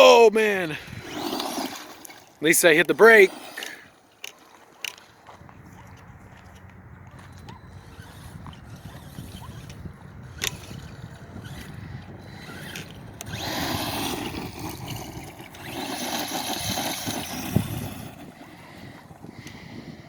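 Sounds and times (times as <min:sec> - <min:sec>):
rc truck motor and tyres on dirt: 0:00.0 - 0:20.0.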